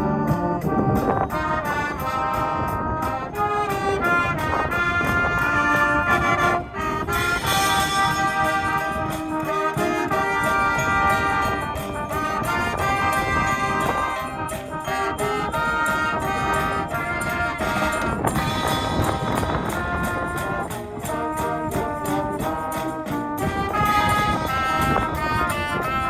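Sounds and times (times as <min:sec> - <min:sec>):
brass band playing: 0:00.0 - 0:26.0
percussion beat: 0:00.0 - 0:26.0
trumpets and trombones: 0:00.0 - 0:26.0.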